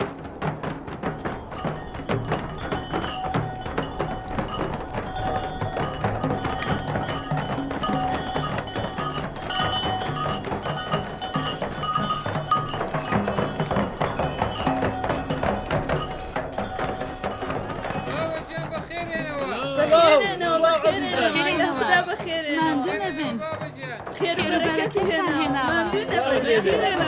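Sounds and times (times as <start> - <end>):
held melodic notes: 0.0 - 23.7
fast percussion: 0.0 - 27.0.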